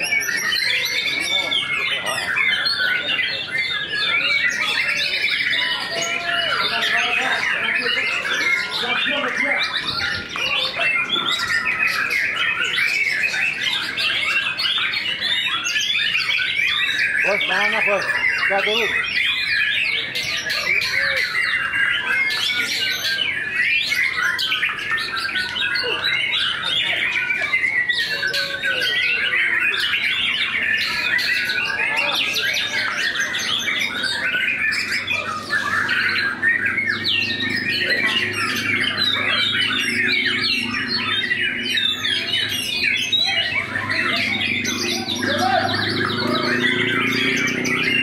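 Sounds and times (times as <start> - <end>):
birds singing whistles and trills: 0.0 - 48.0.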